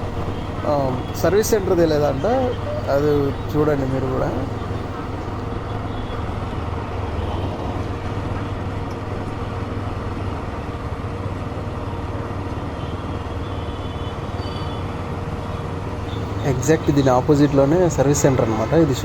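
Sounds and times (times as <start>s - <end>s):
road and traffic noise: 0.0s - 19.0s.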